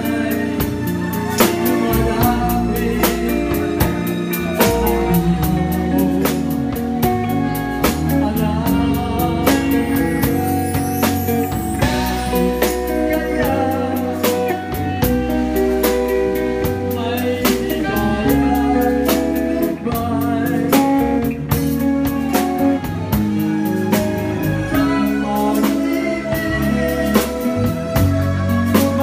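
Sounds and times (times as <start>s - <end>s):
drum kit beat: 0.0s - 29.0s
electric bass: 0.0s - 29.0s
keyboard: 0.0s - 29.0s
person singing: 0.0s - 29.0s.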